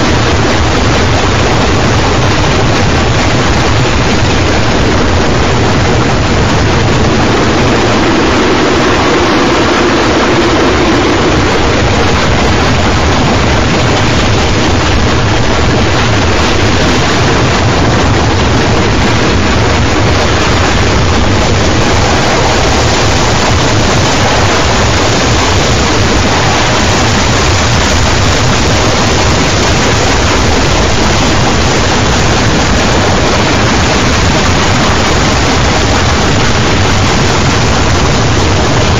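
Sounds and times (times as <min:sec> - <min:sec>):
harsh noise music: 0:00.0 - 0:34.6
heavy low rumble: 0:00.0 - 0:38.9.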